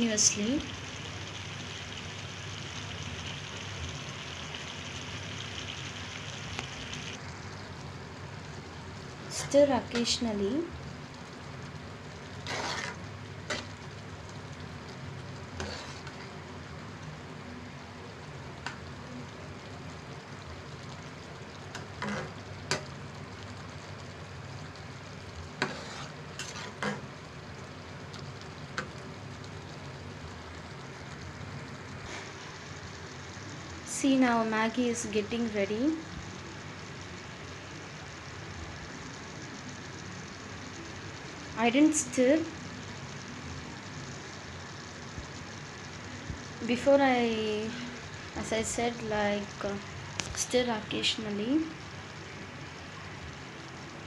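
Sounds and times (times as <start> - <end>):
noodles simmering in a pan: 0.0 - 54.0.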